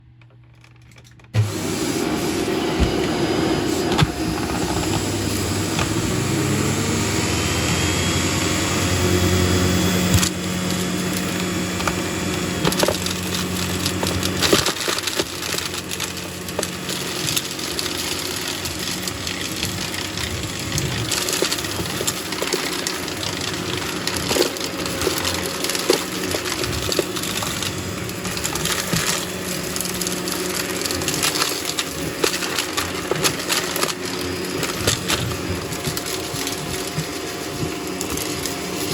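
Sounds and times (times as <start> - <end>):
debris crunching in vacuum: 1.4 - 38.9
vacuum cleaner motor running: 1.4 - 38.9.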